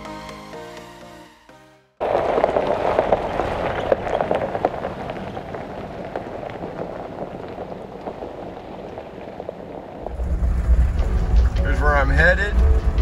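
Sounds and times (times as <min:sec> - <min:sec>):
tyres crunching on gravel: 0:02.0 - 0:13.0.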